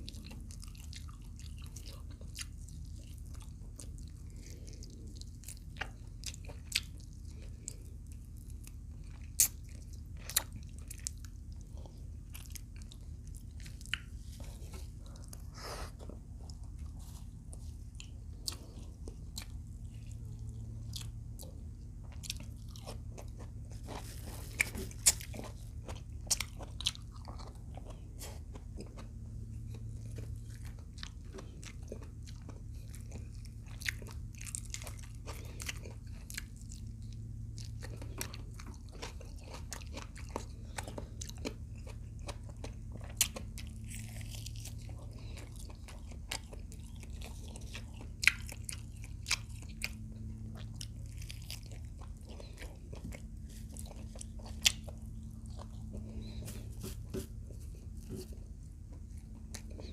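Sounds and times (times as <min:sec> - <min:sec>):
person chewing and crunching food: 0:00.0 - 0:59.9
steady low hum: 0:00.0 - 0:59.9.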